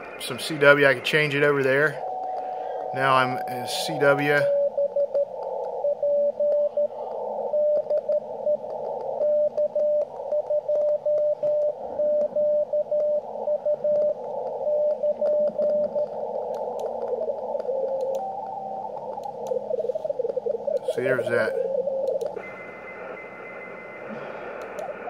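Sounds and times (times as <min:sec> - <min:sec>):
radio band hiss: 0:00.0 - 0:11.0, 0:11.6 - 0:25.0
short radio tones: 0:00.0 - 0:25.0.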